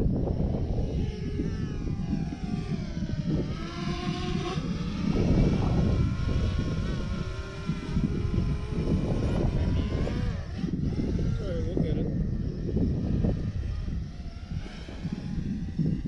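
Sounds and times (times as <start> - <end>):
drone propellers whining: 0.0 - 16.0
wind rumble on microphone: 0.0 - 16.0.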